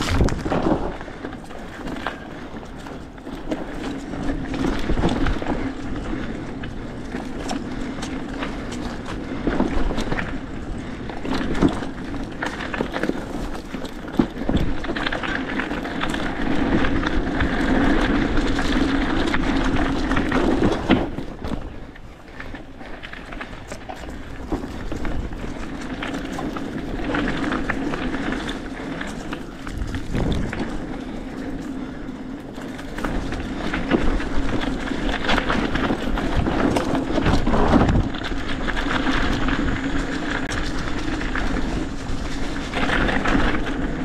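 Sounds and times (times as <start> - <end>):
bike tyre and wind noise: 0.0 - 44.0.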